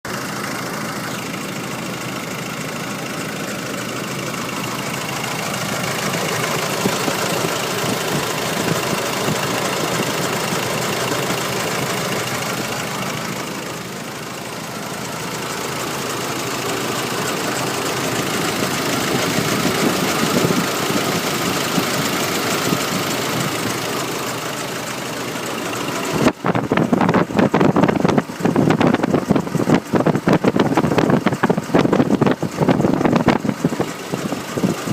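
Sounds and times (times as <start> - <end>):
diesel engine idling with clatter: 0.0 - 34.9.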